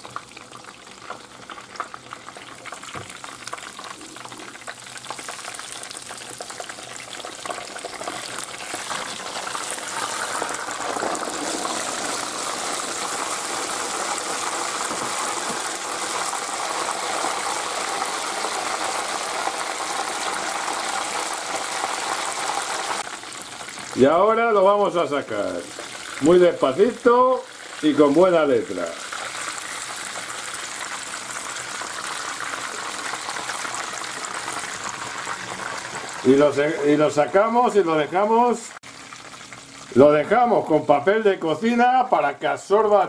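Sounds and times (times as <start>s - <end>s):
cutlet frying in oil: 0.0s - 41.1s.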